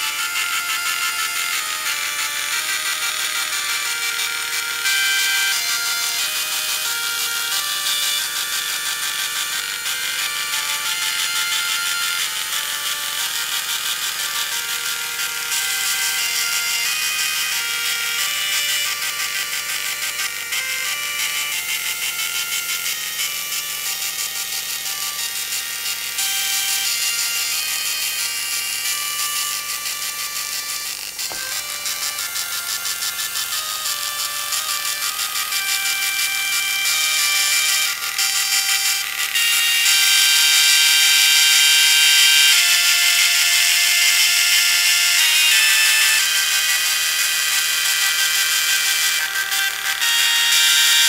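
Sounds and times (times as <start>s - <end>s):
dot matrix printer buzzing melody: 0.0s - 51.0s.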